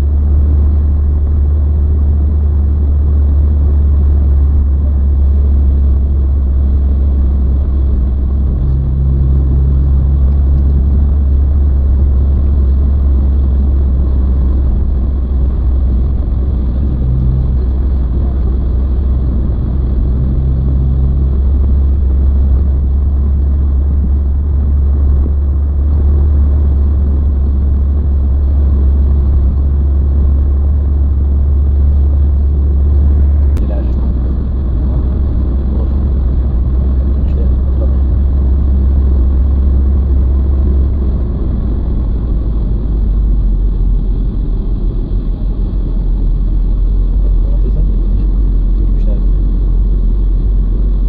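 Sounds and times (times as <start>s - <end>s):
car interior road drone: 0.0s - 51.0s.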